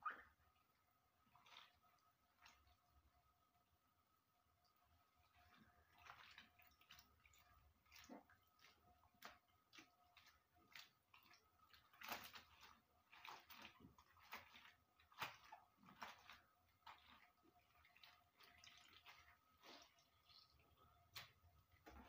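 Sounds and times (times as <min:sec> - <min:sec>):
leaves squelching in water: 0:01.3 - 0:02.8, 0:05.2 - 0:22.0.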